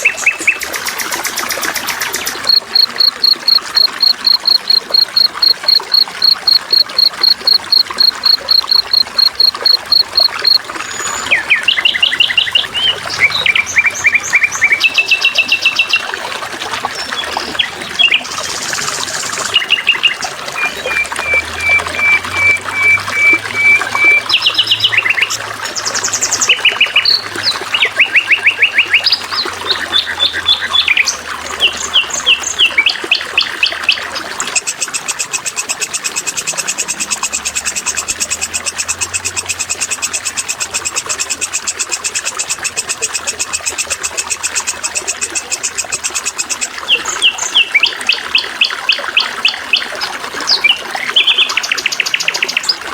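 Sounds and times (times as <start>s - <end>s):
running water trickling: 0.0s - 52.9s
songbirds singing: 0.0s - 52.9s.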